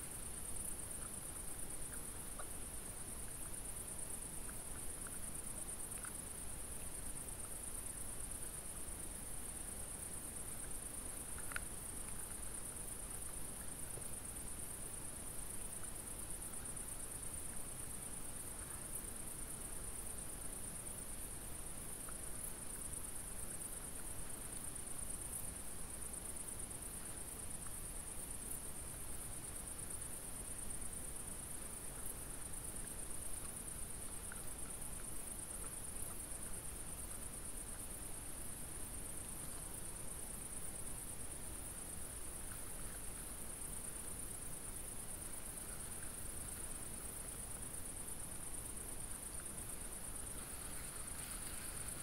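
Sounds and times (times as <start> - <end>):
crickets chirring: 0.0 - 52.0
faint small ticks: 0.0 - 52.0.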